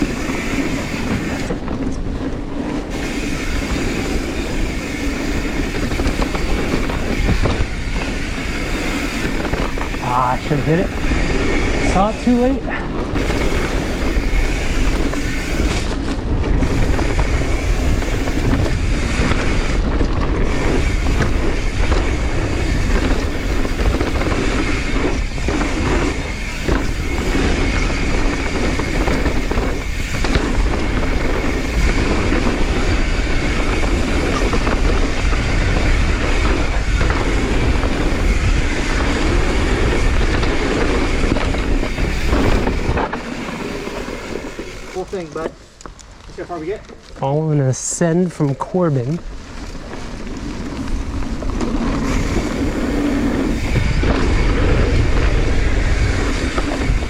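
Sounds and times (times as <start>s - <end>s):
bike rattling over rough ground: 0.0s - 57.0s
bike tyres on dirt: 0.0s - 57.0s.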